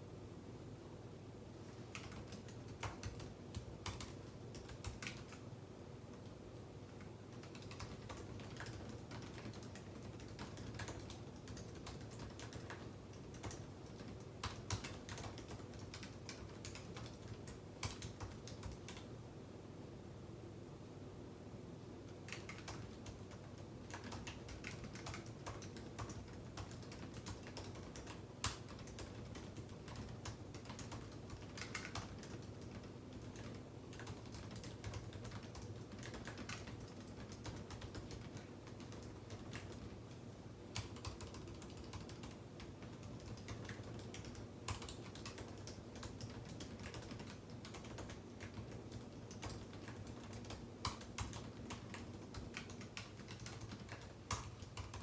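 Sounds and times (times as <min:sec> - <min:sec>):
computer keyboard typing: 0:01.6 - 0:05.4, 0:06.1 - 0:19.1, 0:22.1 - 0:55.0.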